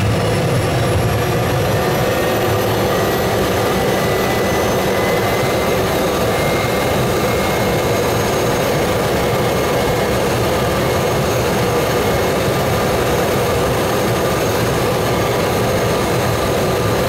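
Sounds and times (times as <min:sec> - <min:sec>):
turboprop engine running: 0:00.0 - 0:17.0.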